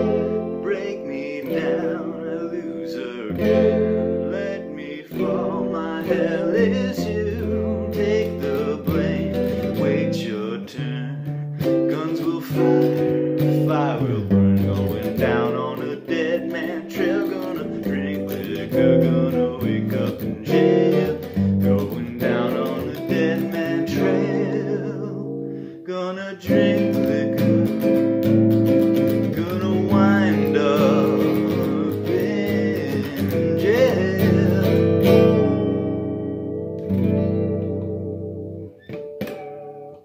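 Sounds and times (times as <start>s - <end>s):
person singing wordlessly: 0.0s - 36.4s
electric guitar strumming chords: 0.0s - 40.0s.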